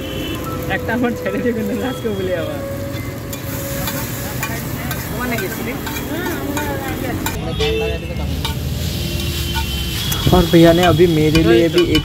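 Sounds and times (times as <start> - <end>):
noodles sizzling: 0.0 - 7.4, 8.1 - 12.0.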